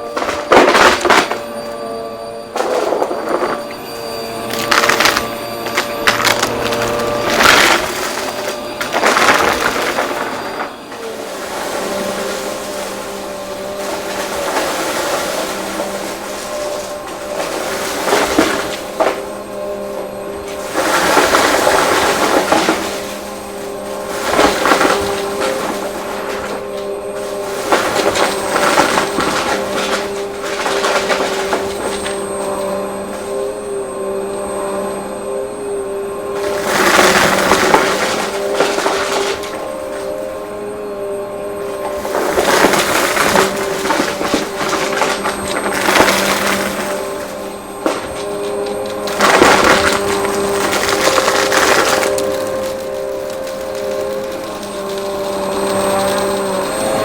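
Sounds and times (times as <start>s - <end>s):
debris rattling through vacuum: 0.0s - 57.0s
vacuum cleaner motor whine: 0.0s - 57.0s.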